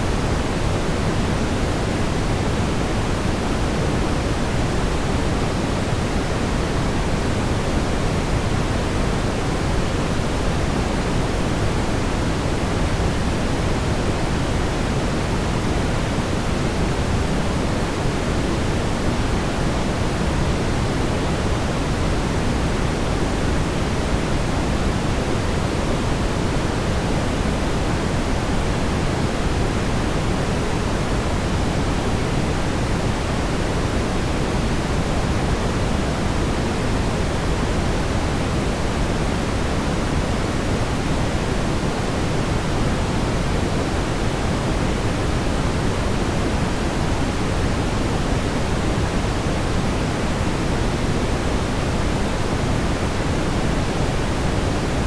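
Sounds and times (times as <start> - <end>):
brown noise rumbling hiss: 0.0 - 55.0.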